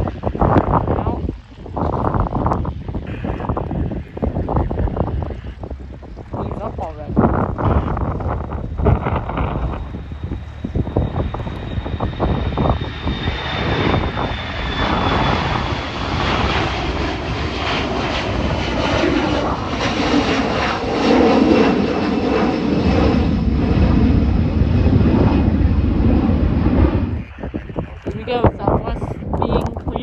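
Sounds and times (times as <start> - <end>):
jet engine whine: 0.0 - 30.0
low rumble: 0.0 - 30.0
wind buffeting microphone: 0.0 - 30.0.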